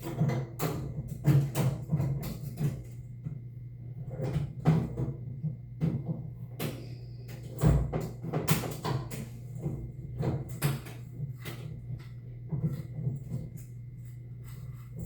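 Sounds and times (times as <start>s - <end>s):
shower fittings clicking and clattering: 0.0s - 3.3s, 4.1s - 15.0s
steady low hum: 0.0s - 15.0s.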